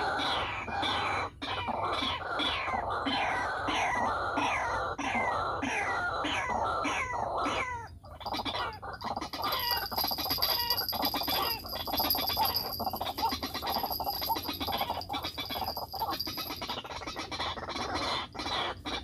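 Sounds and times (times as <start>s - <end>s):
waterhen croaking calls: 0.0s - 19.0s.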